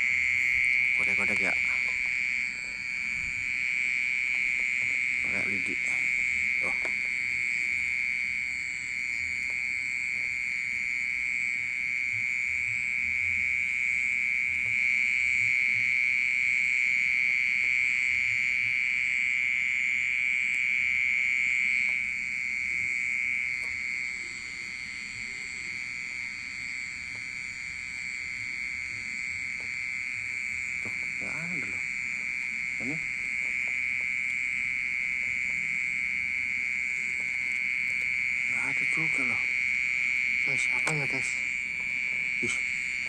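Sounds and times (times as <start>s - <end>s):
high-pitched ringing drone: 0.0s - 43.0s.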